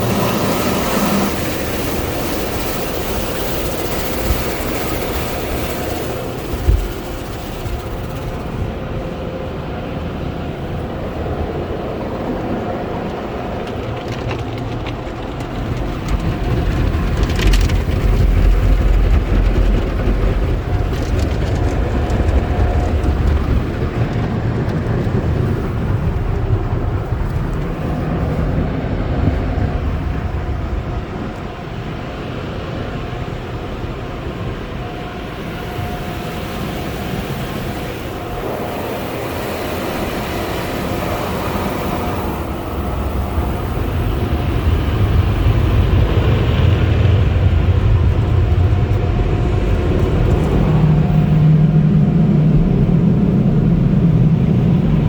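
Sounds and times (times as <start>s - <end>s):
car wash equipment rumbling: 0.0s - 55.0s.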